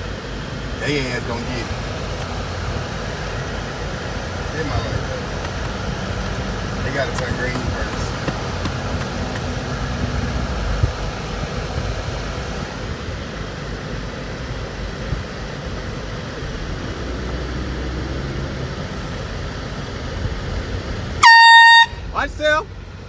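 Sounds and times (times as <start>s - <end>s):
car engines idling and running: 0.0s - 23.0s.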